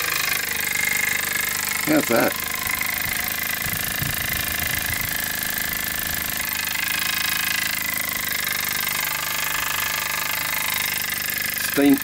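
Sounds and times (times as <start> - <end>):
small engine rapid chuffing: 0.0 - 12.0.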